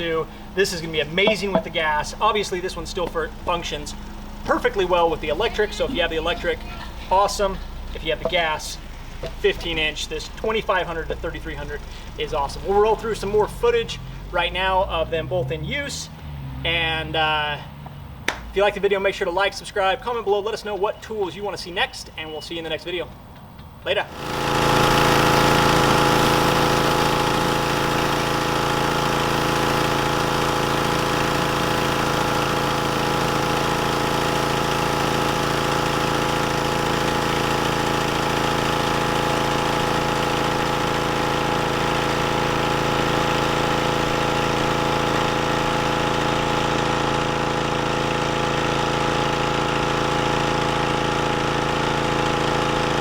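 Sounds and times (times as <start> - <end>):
pressure washer drone: 0.0 - 17.9, 24.0 - 53.0.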